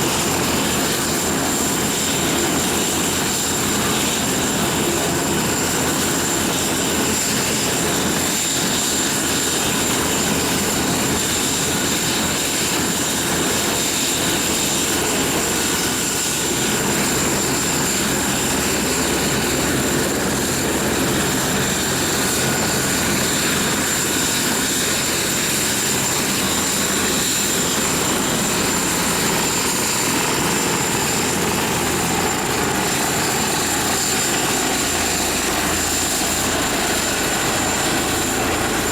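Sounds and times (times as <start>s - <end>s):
helicopter rotor beat: 0.0s - 38.9s
helicopter turbine whine: 0.0s - 38.9s.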